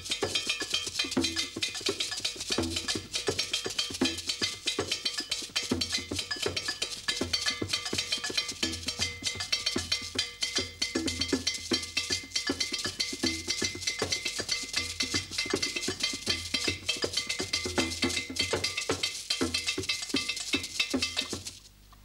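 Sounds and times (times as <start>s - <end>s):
hand drum: 0.0s - 21.7s
gourd shaker: 0.0s - 22.0s.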